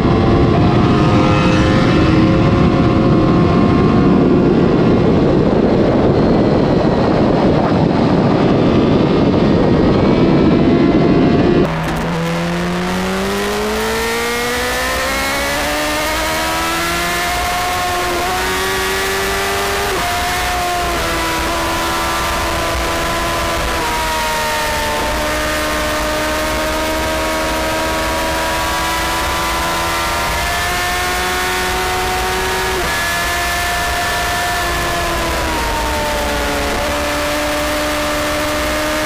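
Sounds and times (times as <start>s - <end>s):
motorcycle engine accelerating: 0.0s - 39.0s
wind rush: 0.0s - 39.0s.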